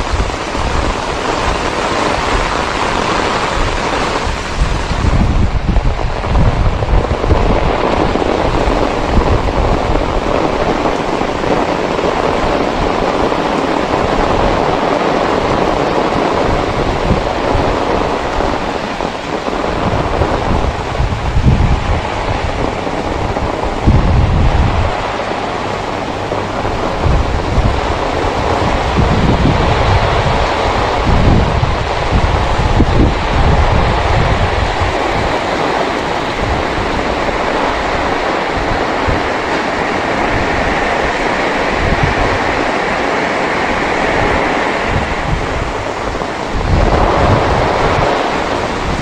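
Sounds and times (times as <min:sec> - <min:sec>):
heavy rain on concrete: 0:00.0 - 0:49.0
wind buffeting microphone: 0:00.0 - 0:49.0.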